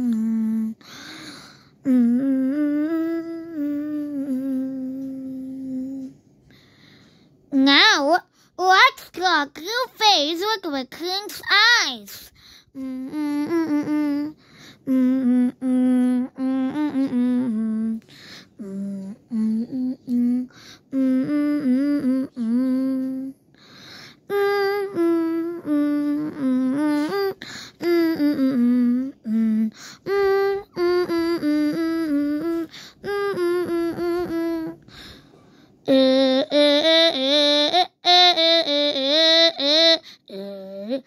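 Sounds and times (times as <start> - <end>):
person humming a tune: 0.0 - 6.2, 12.6 - 35.2, 35.8 - 41.0.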